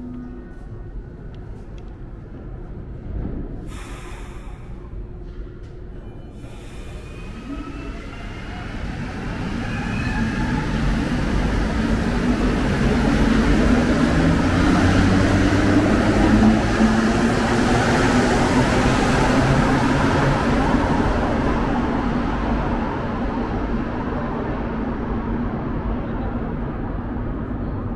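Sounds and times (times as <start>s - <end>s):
metro train rumble: 0.0s - 27.9s.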